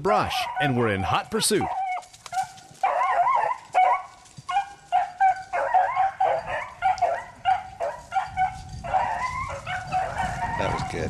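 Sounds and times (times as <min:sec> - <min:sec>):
dogs baying and yelping: 0:00.1 - 0:11.0.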